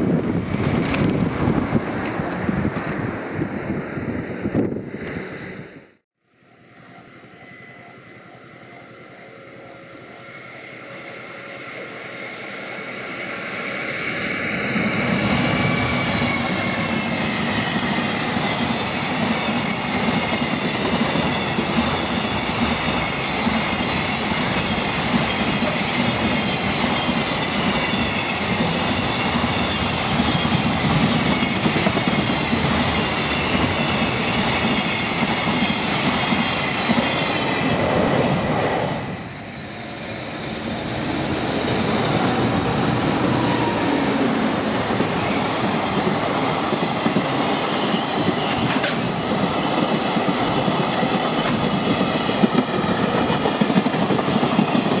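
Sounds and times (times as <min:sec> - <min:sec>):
freight train wheels rumbling on rails: 0:00.0 - 0:05.4, 0:10.6 - 0:55.0.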